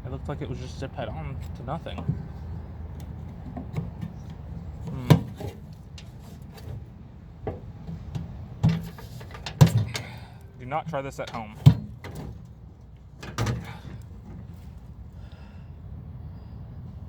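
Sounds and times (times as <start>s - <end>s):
microwave casing knocks and scraping: 0.3s - 14.8s.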